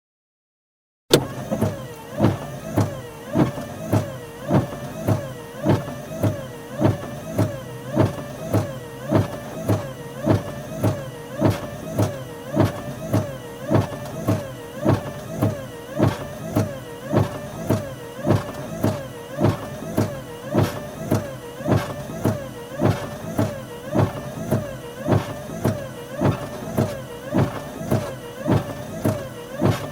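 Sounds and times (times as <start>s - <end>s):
windshield wipers sweeping: 1.1s - 29.9s
wiper motor whining: 1.1s - 29.9s
heavy rain hissing on car: 1.3s - 29.9s.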